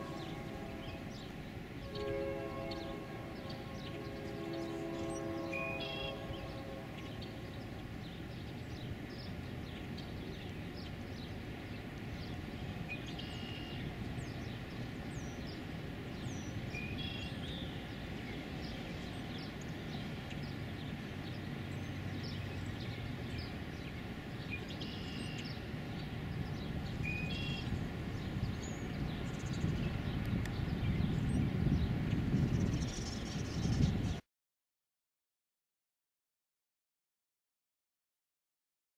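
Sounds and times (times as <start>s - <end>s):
distant traffic rumble: 0.0s - 33.6s.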